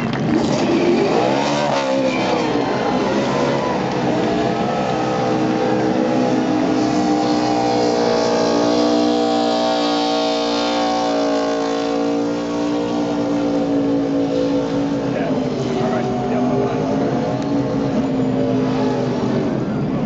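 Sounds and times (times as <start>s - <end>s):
engine at high revs: 0.0s - 20.0s
tyres spinning on asphalt: 0.0s - 20.0s.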